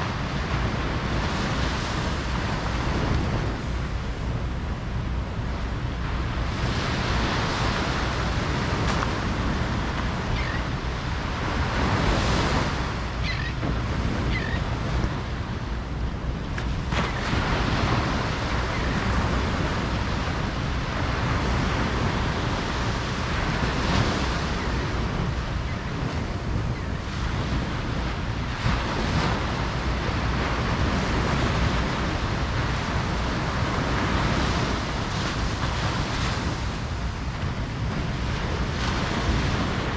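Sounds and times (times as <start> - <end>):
ocean surf washing onto beach: 0.0 - 39.9
wind rumble on microphone: 0.0 - 39.9.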